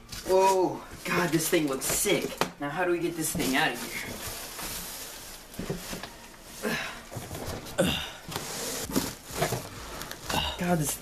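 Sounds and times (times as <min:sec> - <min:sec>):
cardboard and foam packaging rustling: 0:00.0 - 0:11.0.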